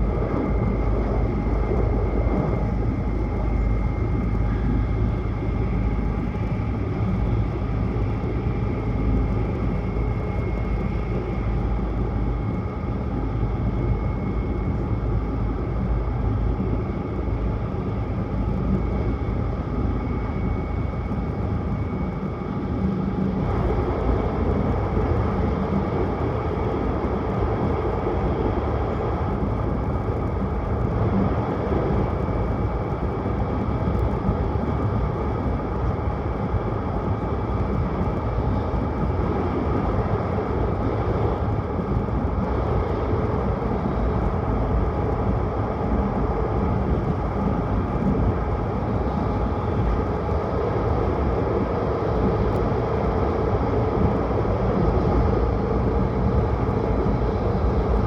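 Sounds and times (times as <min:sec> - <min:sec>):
train running noise from inside: 0:00.0 - 0:58.0.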